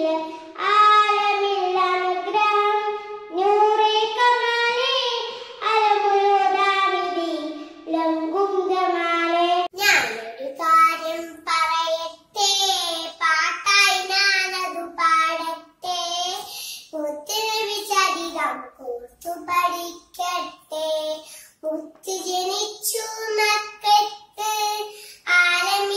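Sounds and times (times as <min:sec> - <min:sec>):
girl singing: 0:00.0 - 0:25.9
small girl singing: 0:00.0 - 0:25.9.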